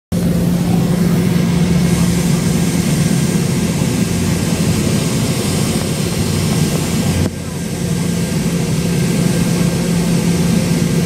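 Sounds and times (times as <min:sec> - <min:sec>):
jet engines roaring in cabin: 0:00.1 - 0:11.0
low engine hum: 0:00.1 - 0:11.0.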